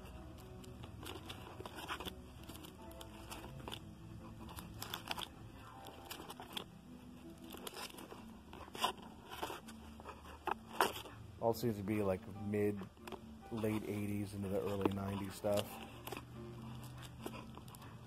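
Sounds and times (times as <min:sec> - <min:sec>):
plastic sleeves crinkling: 0:00.0 - 0:18.0.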